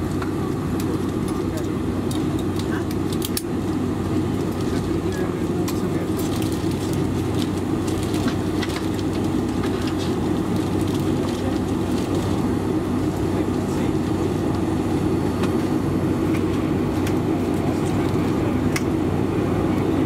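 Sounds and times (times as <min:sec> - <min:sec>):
airplane cabin hum: 0:00.0 - 0:20.0.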